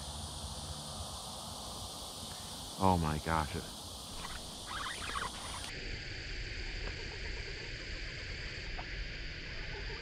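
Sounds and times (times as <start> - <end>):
chorus of insects: 0.0 - 10.0.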